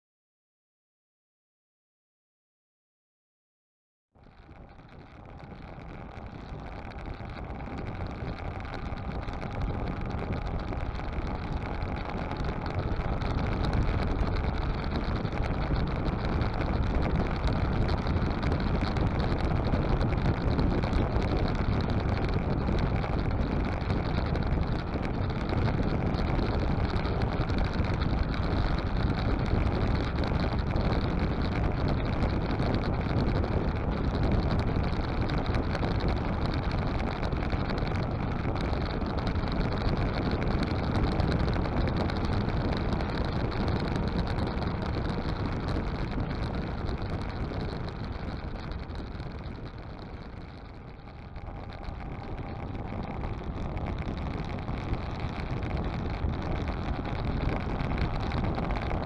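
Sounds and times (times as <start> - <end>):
wind rush over microphone: 4.2 - 59.0.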